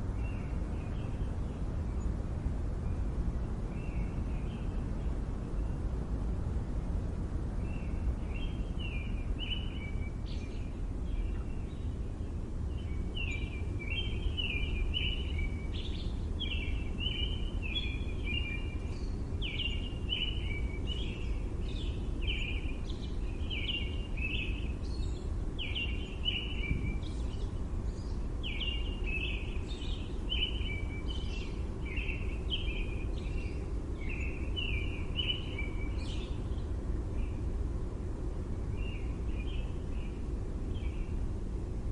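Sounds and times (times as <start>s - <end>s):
low rumble of city background: 0.0s - 41.9s
small birds chirping: 0.0s - 41.9s.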